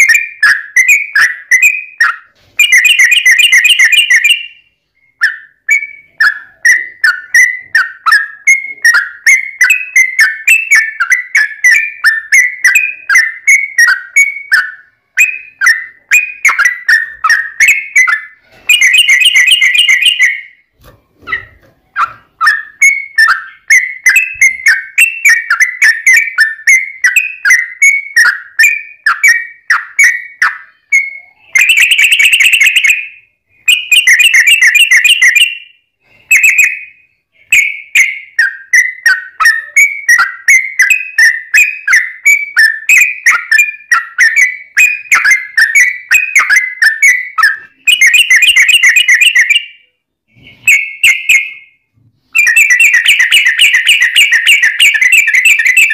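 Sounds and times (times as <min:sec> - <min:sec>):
bird chirping song: 0:00.0 - 0:55.9.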